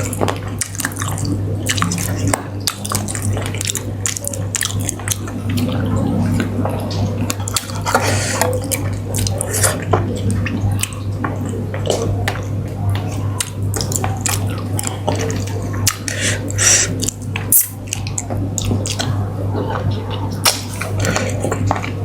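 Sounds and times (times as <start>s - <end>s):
steady low hum: 0.0s - 22.0s
wet chewing and smacking: 0.0s - 22.0s.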